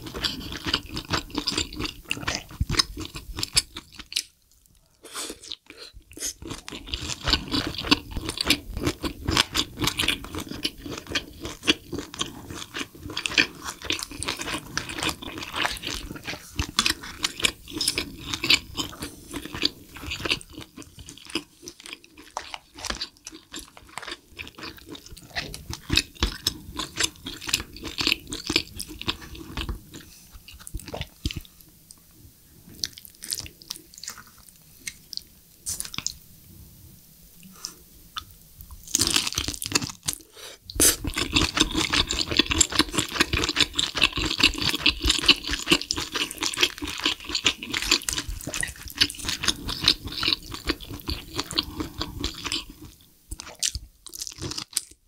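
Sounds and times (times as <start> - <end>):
chewing sounds: 0.0 - 32.0, 37.7 - 55.0.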